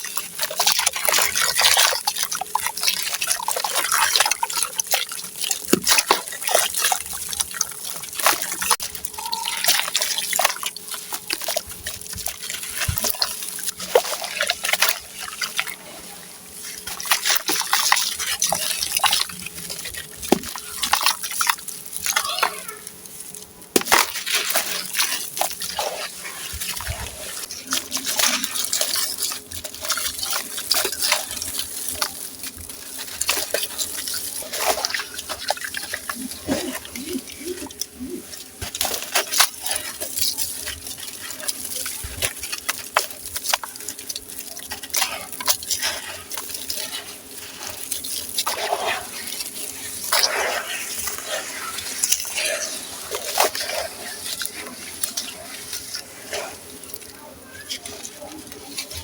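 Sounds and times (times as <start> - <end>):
sand-cement chunks crumbling in water: 0.0 - 59.0.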